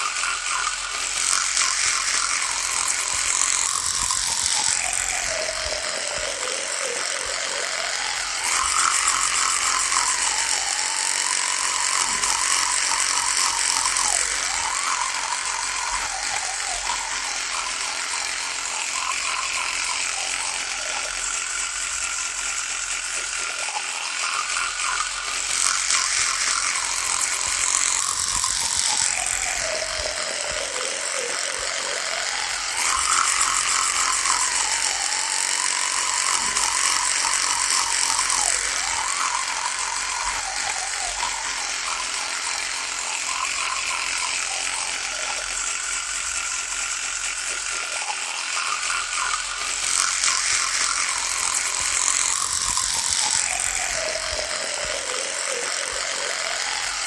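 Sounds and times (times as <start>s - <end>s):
electric toothbrush buzzing: 0.0s - 57.0s.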